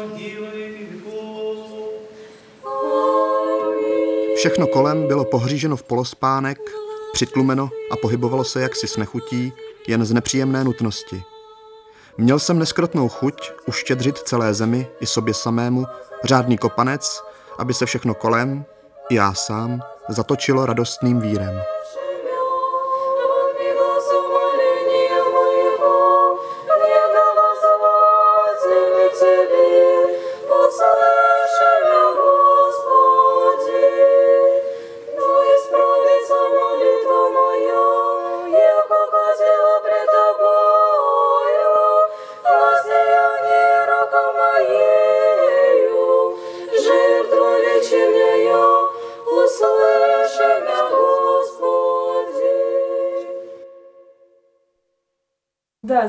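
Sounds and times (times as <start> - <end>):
choir singing a cappella: 0.0 - 54.5.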